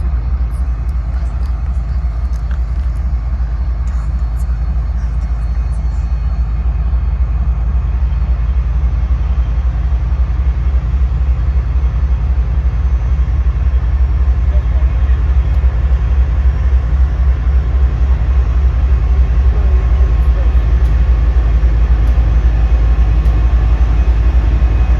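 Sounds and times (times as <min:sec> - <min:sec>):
diesel locomotive engine rumble: 0:00.0 - 0:24.9.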